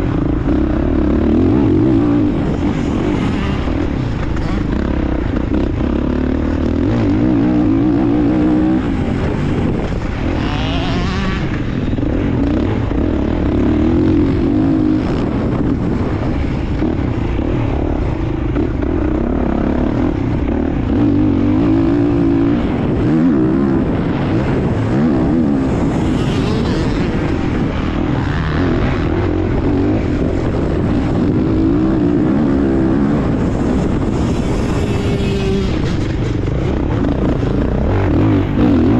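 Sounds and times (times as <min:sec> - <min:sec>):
motocross bike engine revving: 0:00.0 - 0:38.9
wind rumble on microphone: 0:00.0 - 0:38.9.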